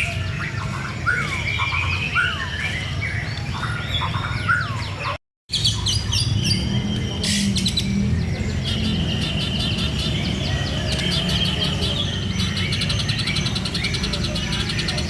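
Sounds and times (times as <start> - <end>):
bird singing whistled notes: 0.0 - 15.0
high chattering bird notes: 0.0 - 15.0.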